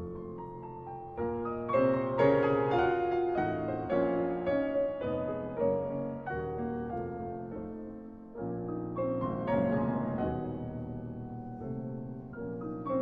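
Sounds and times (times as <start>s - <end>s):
two pianos playing classical duo: 0.0s - 13.0s.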